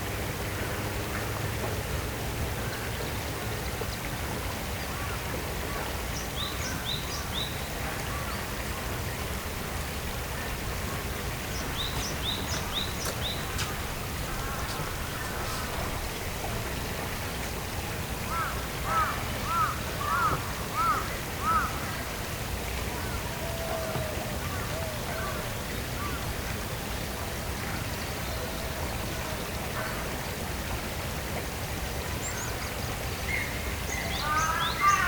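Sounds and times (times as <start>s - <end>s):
flowing water: 0.0s - 35.0s.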